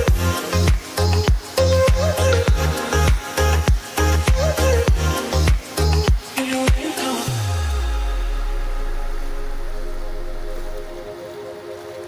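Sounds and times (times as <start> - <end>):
music with deep bass and drums: 0.0 - 11.2.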